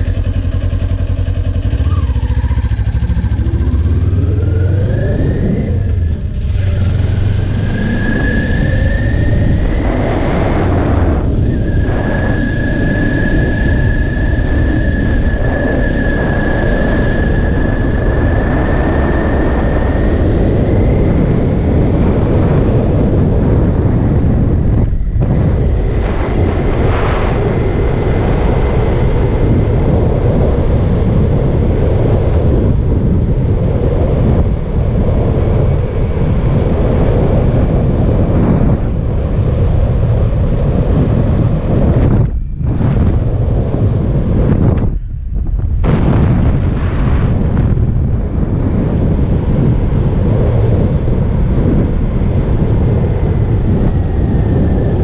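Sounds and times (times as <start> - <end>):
motorcycle engine running: 0.0 - 46.7
thin whine: 0.0 - 55.0
wind rushing over microphone: 0.0 - 55.0.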